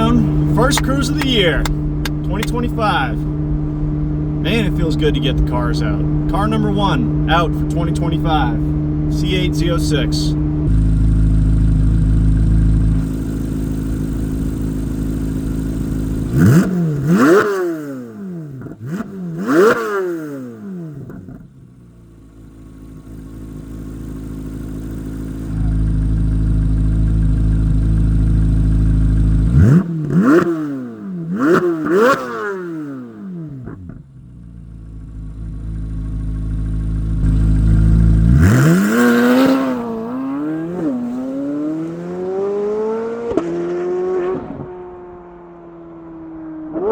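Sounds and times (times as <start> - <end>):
sports car engine revving: 0.0 - 46.9.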